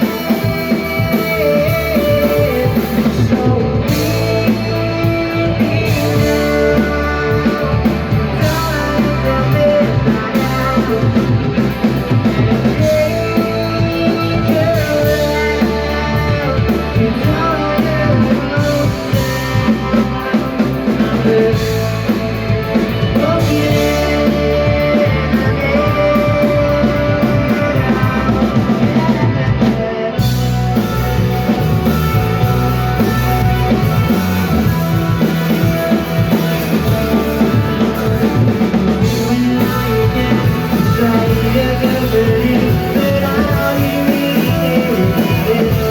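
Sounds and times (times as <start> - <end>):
bass guitar: 0.0 - 45.9
drum kit: 0.0 - 45.9
electric guitar: 0.0 - 45.9
person singing: 0.0 - 45.9.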